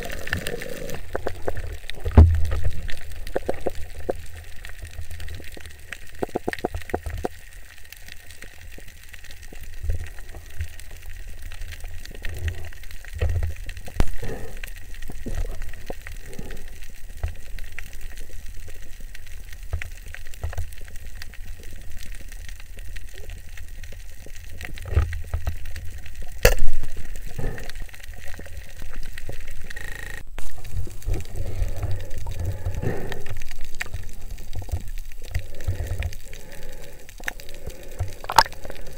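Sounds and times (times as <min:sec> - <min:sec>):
low rumble of water movement: 0:00.0 - 0:38.9
small clicks underwater: 0:00.0 - 0:38.9.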